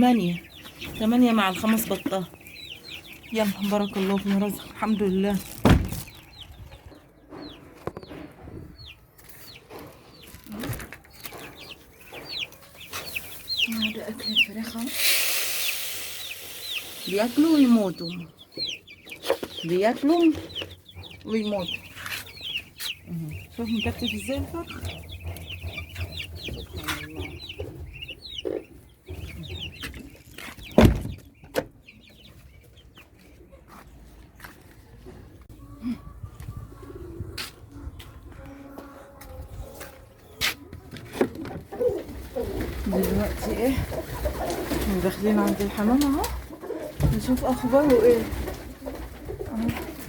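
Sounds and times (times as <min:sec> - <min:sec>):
chicks peeping: 0:00.0 - 0:50.0.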